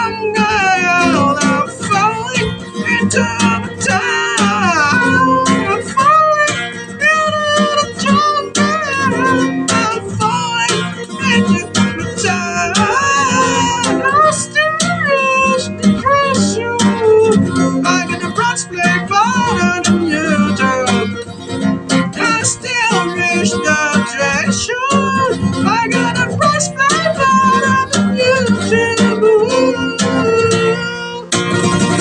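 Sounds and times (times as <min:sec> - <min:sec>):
acoustic guitar strumming: 0:00.0 - 0:32.0
instrumental melody line: 0:00.0 - 0:32.0.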